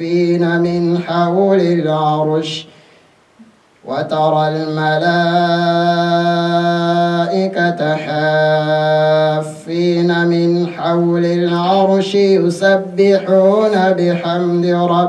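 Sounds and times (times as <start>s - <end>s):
man chanting melodic recitation: 0.0s - 2.7s, 3.8s - 15.0s.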